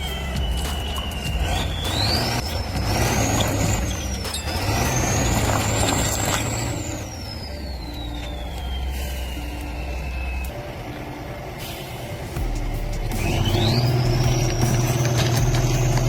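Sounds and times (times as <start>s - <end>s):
engine high whistle: 0.0s - 16.0s
heavy vehicle engine rumble: 0.0s - 16.0s.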